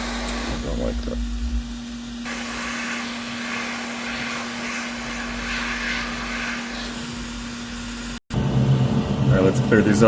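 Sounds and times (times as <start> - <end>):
blower rushing air: 0.0 - 10.0
low electrical hum: 0.0 - 10.0.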